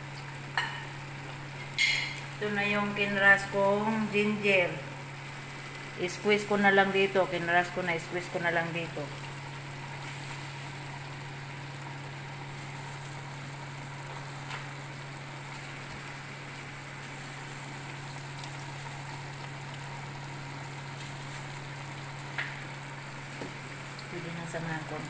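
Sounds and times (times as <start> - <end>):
food sizzling in a metal pot: 0.0 - 25.0
low mechanical hum: 0.0 - 25.0.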